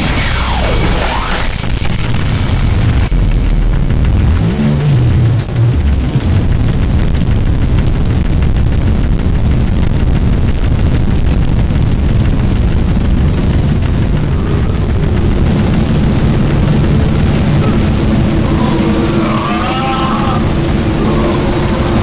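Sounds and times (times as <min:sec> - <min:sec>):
distorted harsh noise: 0:00.0 - 0:22.0
steady low drones: 0:00.0 - 0:22.0.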